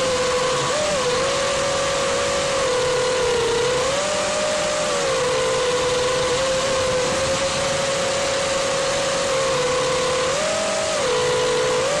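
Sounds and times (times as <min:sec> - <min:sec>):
drone motors whining: 0:00.0 - 0:12.0
rush of propeller wash: 0:00.0 - 0:12.0.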